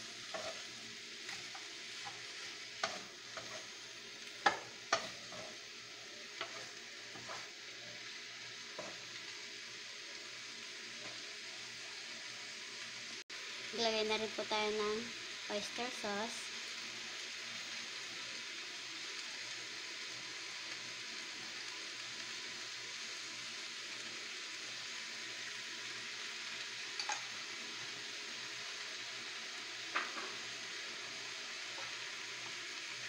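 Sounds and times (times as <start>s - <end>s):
vegetables sizzling in a wok: 0.0s - 33.0s.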